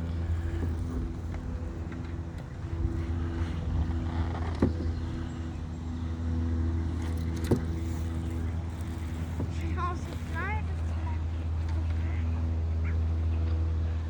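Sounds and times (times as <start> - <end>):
motor engine hum: 0.0 - 14.0.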